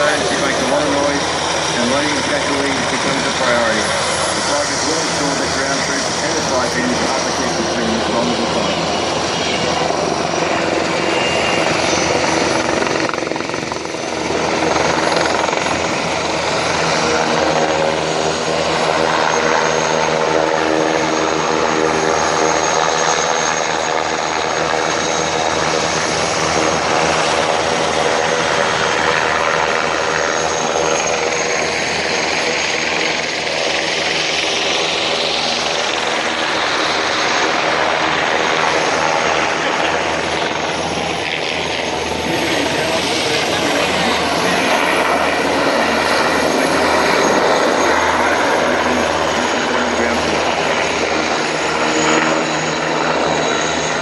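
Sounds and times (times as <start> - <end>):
helicopter rotor beat: 0.0 - 54.0
turbine engine noise: 0.0 - 54.0.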